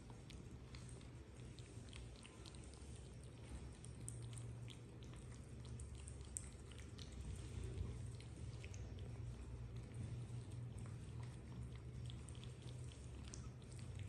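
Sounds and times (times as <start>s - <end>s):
kittens lapping food: 0.0s - 14.0s
low steady hum: 0.0s - 14.0s.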